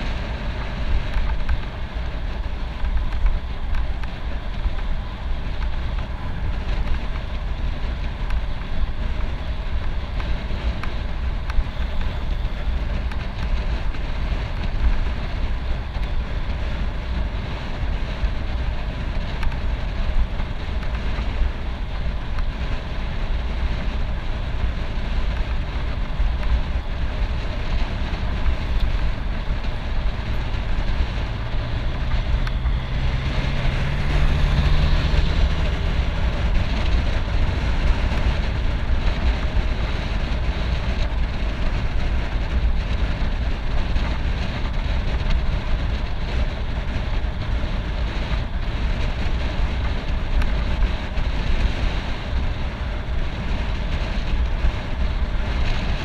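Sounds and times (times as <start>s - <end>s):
motor vehicle engine: 0.0s - 56.0s
tyre noise on rough asphalt: 0.0s - 56.0s
wind on camera microphone: 0.0s - 56.0s.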